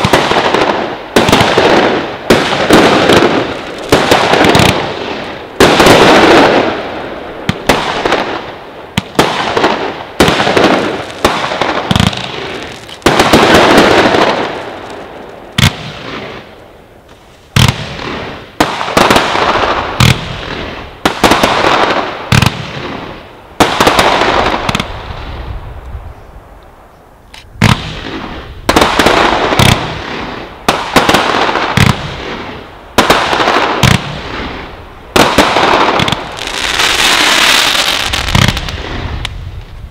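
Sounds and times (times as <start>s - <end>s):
fireworks bangs echoing: 0.0s - 25.7s, 27.6s - 39.9s.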